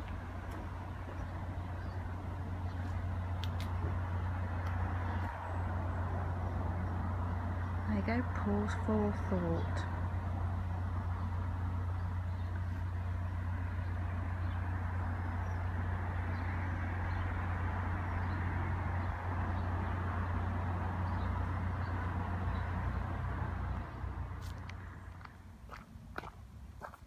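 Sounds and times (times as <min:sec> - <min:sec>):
low engine rumble: 0:00.0 - 0:27.0.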